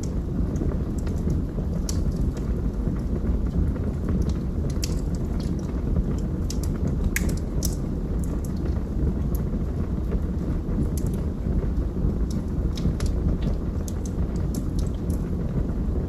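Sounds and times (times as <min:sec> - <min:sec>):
fire crackling and popping: 0:00.0 - 0:16.0
rush of fire flames: 0:00.0 - 0:16.0.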